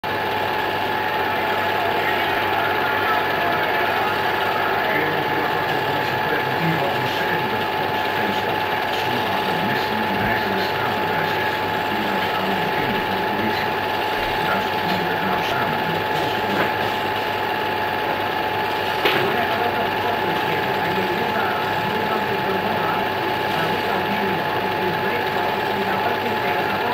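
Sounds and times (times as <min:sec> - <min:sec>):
faint voices: 0:00.0 - 0:26.9
film projector whirring: 0:00.0 - 0:26.9.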